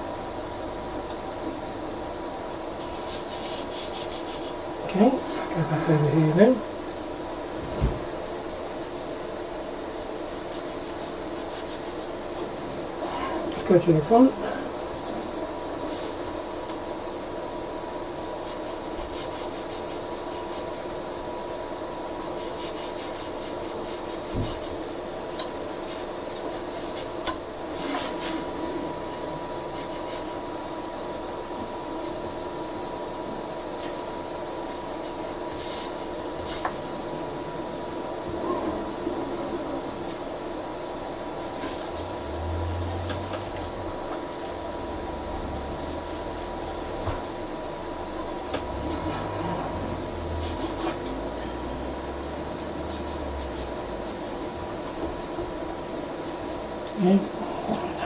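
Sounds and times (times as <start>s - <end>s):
printer fans humming: 0.0s - 58.0s.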